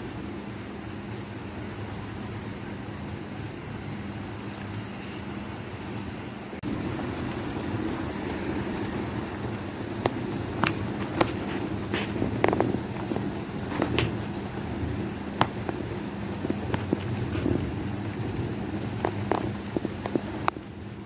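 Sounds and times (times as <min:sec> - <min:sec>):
rain on wet pavement: 0:00.0 - 0:21.0.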